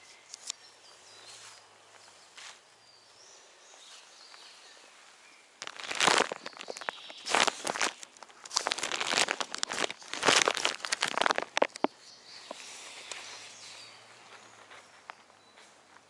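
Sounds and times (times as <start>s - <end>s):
faint birdsong: 0.0s - 16.0s.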